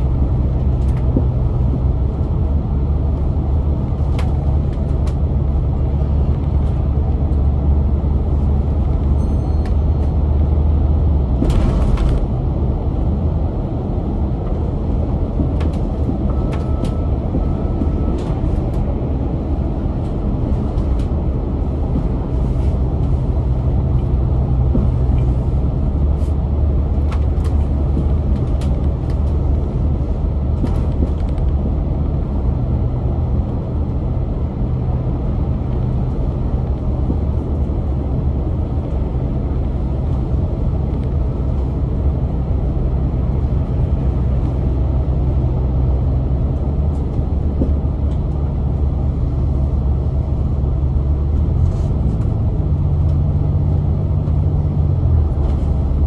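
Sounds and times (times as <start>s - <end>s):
bus diesel engine running: 0.0s - 56.0s
road rumble: 0.0s - 56.0s.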